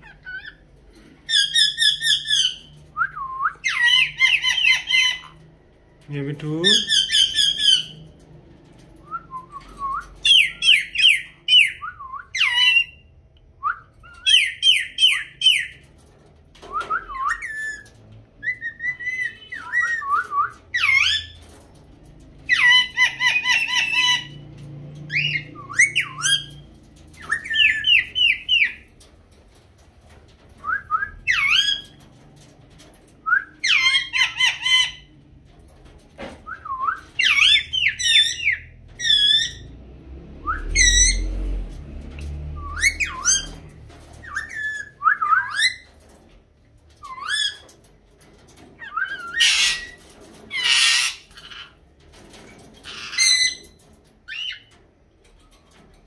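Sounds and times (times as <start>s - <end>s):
parrots whistling and calling: 0.0s - 6.0s, 6.6s - 15.9s, 16.6s - 21.6s, 22.4s - 29.0s, 30.5s - 32.5s, 33.2s - 35.1s, 36.2s - 46.0s, 46.9s - 47.8s, 48.8s - 54.8s.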